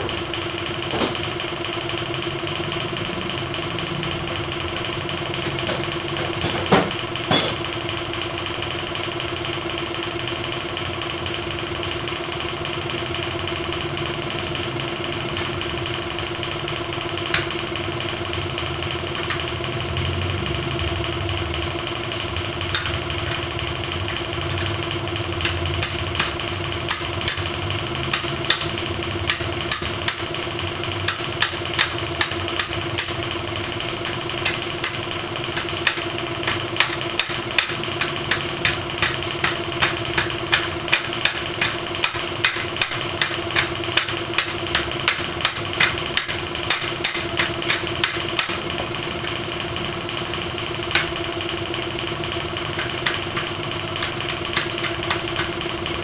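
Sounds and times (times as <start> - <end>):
motor humming and whining: 0.0 - 56.0.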